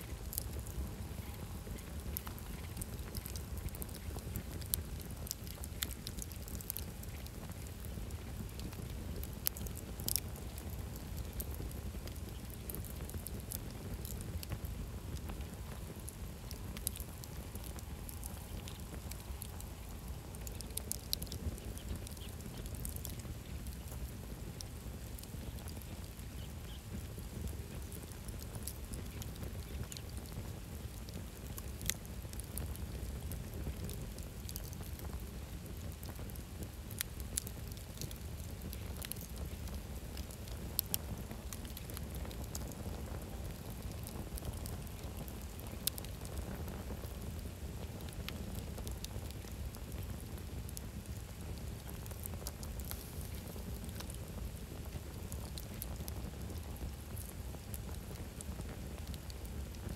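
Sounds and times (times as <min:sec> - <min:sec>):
campfire burning with low rush: 0:00.0 - 0:59.9
fire crackles and pops: 0:00.0 - 0:59.9.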